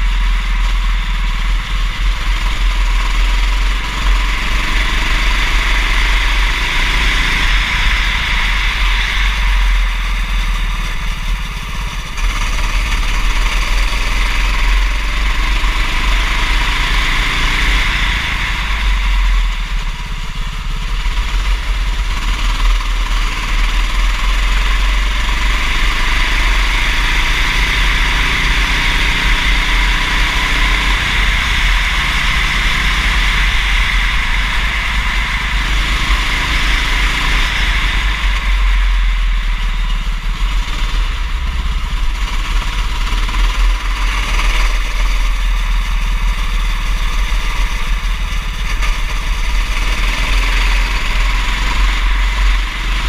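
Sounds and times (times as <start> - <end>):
deep wind rumble: 0.0 - 53.0
go-kart engine racing: 0.0 - 53.0.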